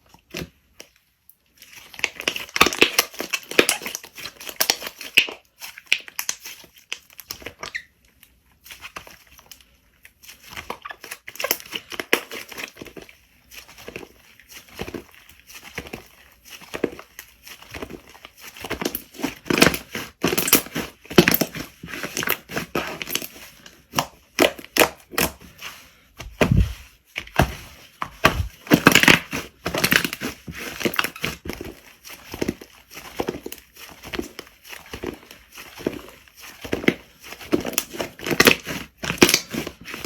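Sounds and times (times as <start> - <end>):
slime squishing and crackling: 1.5 - 40.0.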